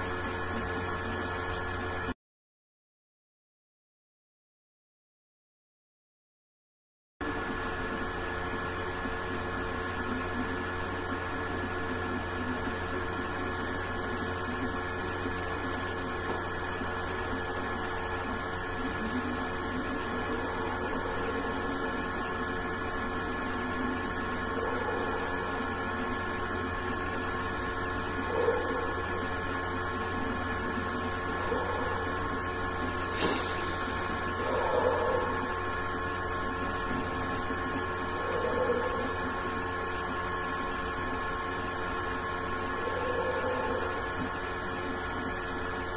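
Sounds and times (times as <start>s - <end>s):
steady background hum: 0.0s - 2.2s, 7.2s - 45.9s.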